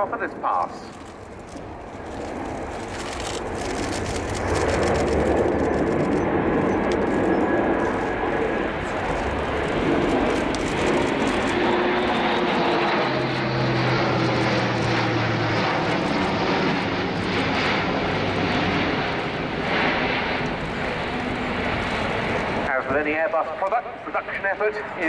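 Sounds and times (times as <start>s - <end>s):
turboprop aircraft flying past: 0.0s - 25.0s.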